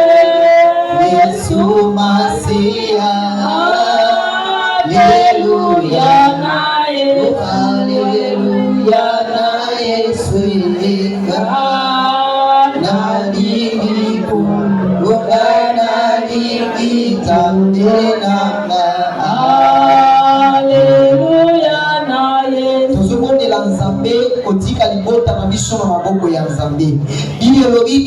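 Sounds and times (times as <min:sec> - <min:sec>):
men and women singing worship song: 0:00.0 - 0:25.8.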